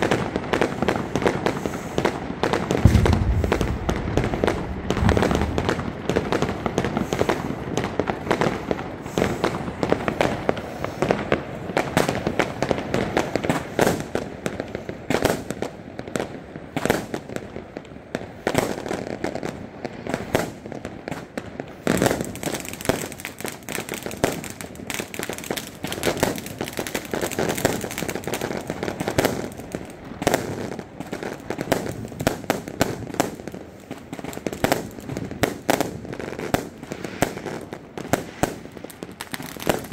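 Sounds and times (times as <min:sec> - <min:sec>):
fireworks bangs and pops: 0:00.0 - 0:39.9
fireworks hissing and crackling: 0:00.0 - 0:39.9.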